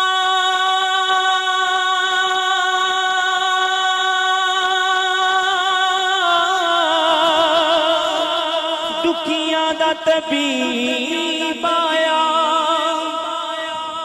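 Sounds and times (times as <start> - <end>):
man singing amplified: 0.0 - 14.0.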